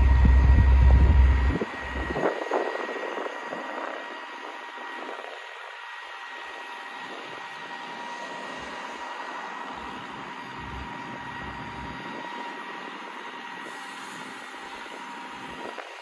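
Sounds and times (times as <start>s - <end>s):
hydraulic whine and hiss: 0.0s - 16.0s.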